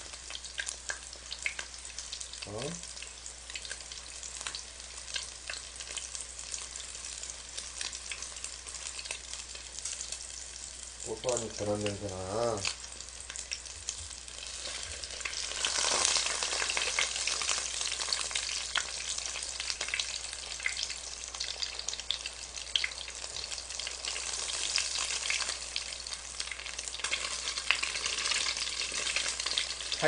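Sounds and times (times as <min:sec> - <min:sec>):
fish frying in hot oil: 0:00.0 - 0:30.0.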